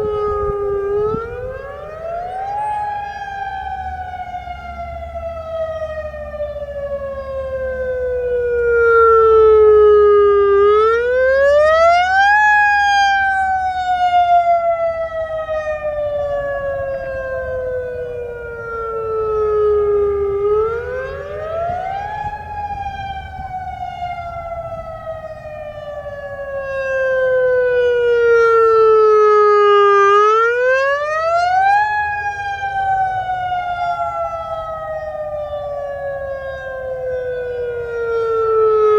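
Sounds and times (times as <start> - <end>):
electronic warning siren: 0.0 - 38.9.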